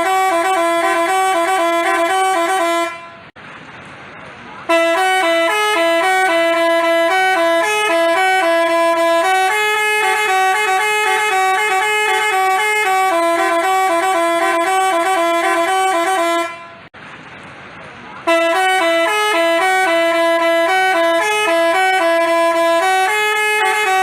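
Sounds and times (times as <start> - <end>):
musical bus horn tune: 0.0 - 3.4, 4.7 - 16.9, 18.2 - 24.0.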